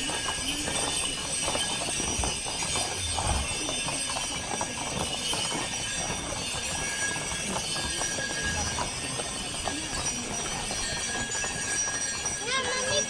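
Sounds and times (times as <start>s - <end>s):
horse hooves clip-clopping on asphalt: 0.0s - 13.0s.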